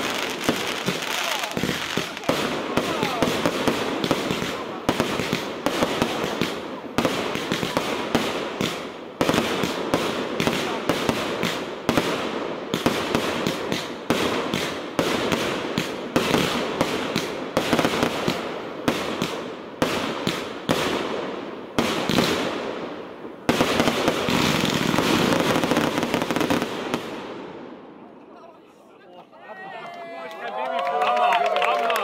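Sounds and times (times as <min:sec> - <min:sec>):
firework shots banging: 0:00.0 - 0:27.6.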